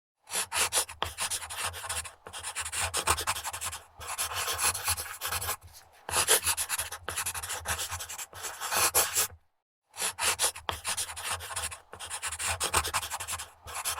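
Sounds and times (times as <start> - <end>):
pencil scribbling on paper: 0.2 - 9.4, 10.0 - 13.9.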